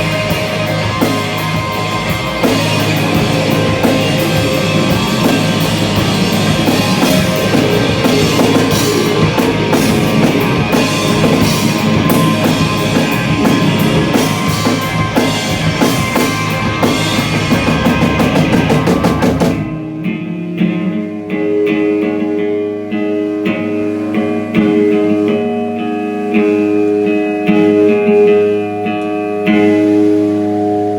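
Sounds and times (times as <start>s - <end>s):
guitar picking sustained notes: 0.0s - 30.9s
live rock band playing: 0.0s - 30.9s.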